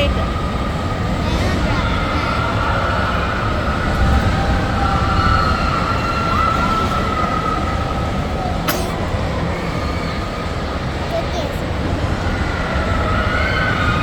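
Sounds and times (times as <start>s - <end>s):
indoor amusement park din: 0.0s - 14.0s.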